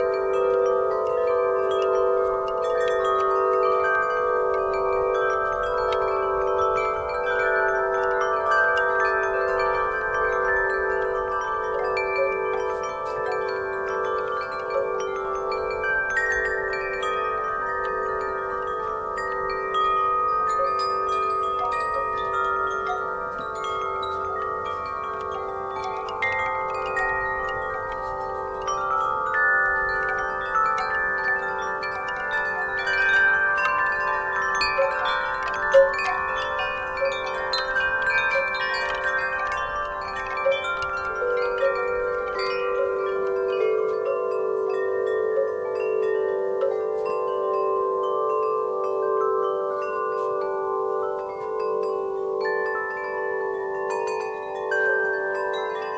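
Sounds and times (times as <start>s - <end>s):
metal wind chimes ringing: 0.0s - 55.9s.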